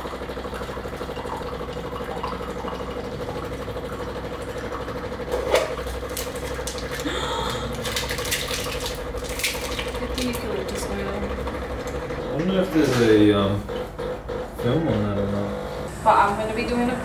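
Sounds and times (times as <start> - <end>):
espresso machine pump buzzing: 0.0 - 17.0.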